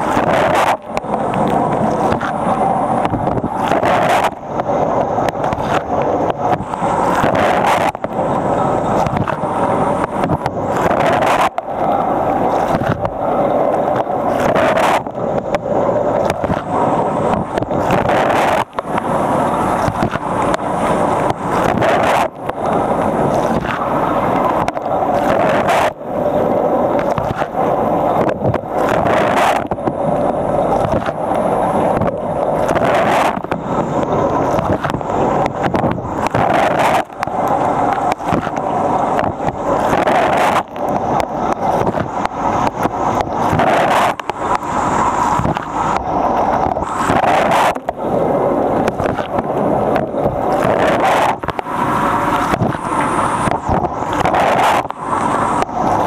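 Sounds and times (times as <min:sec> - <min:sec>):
dishwasher water jets splashing: 0:00.0 - 0:56.0.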